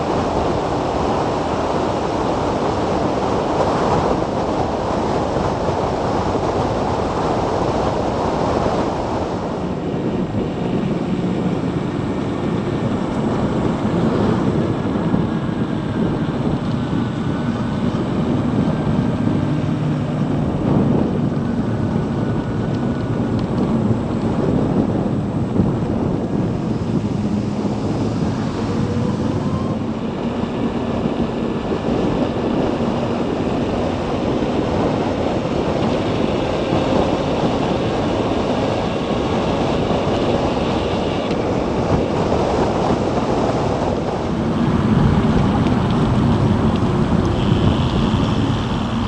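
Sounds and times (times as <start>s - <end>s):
motorcycle road noise: 0.0s - 49.0s
wind rushing over microphone: 0.0s - 49.0s.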